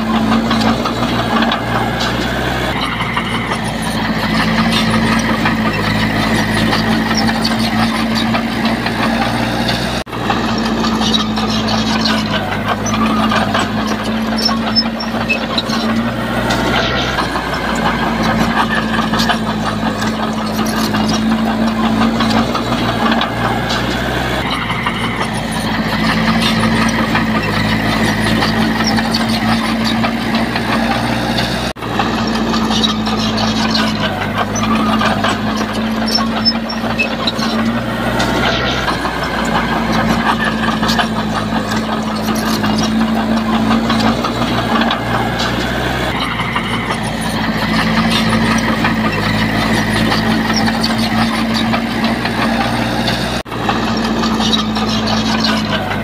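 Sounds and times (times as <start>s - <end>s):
diesel engine of heavy machinery: 0.0s - 56.0s.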